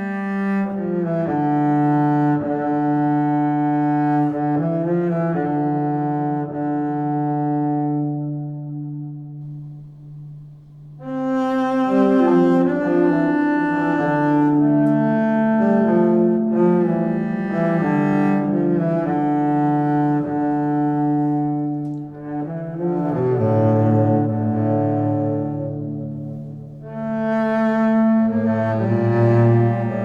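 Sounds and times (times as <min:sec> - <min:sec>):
slow low bowed strings: 0:00.0 - 0:30.0.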